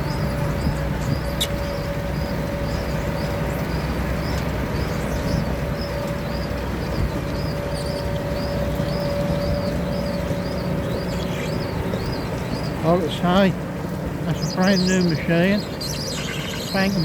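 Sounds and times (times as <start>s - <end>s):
harvesting machine drone: 0.0s - 17.0s.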